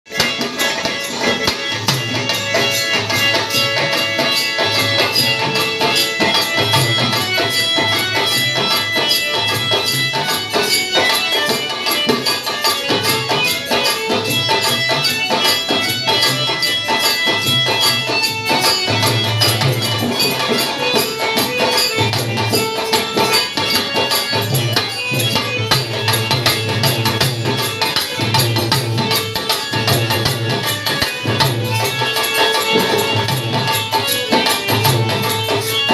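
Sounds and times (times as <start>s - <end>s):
hand drums beating fast: 0.1s - 35.9s
jingling percussion: 0.1s - 35.9s
sustained instrumental melody: 0.1s - 35.9s.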